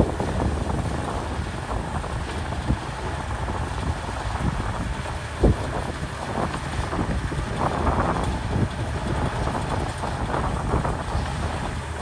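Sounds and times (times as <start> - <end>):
bulldozer diesel engine rumble: 0.0 - 12.0.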